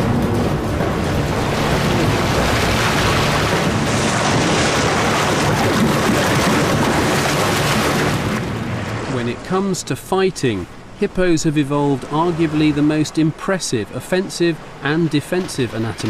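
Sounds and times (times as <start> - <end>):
river water churning and splashing: 0.0 - 16.0.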